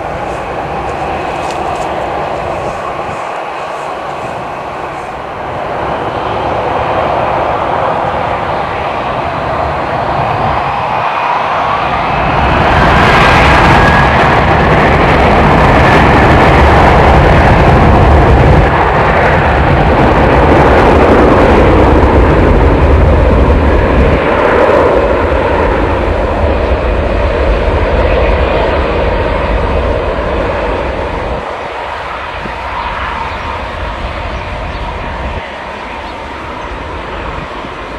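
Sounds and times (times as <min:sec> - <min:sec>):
jet engines passing close: 0:00.0 - 0:37.9.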